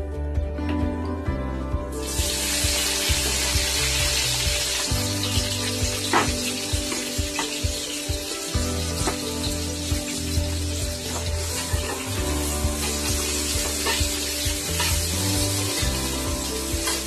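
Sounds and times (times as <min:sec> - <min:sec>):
onion and garlic sizzling in oil: 0:02.0 - 0:17.0.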